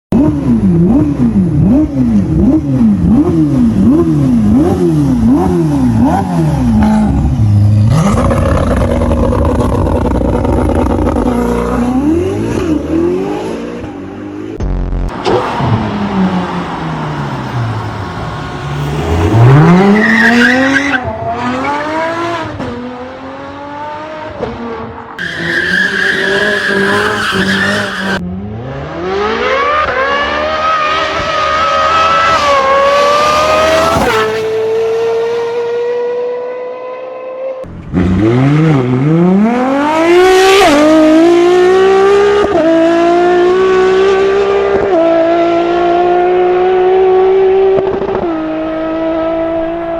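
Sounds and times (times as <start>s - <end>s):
race car engines revving: 0.1s - 49.9s.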